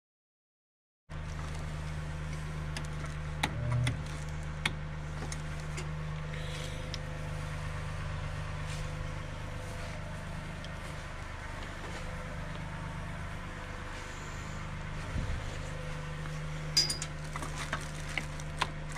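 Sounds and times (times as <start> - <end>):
car engine idling: 1.1 - 18.9.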